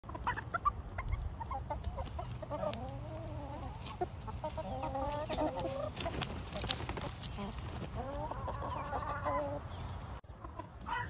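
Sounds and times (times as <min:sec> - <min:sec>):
chickens clucking: 0:00.0 - 0:11.0
long wavering chicken calls: 0:00.1 - 0:11.0.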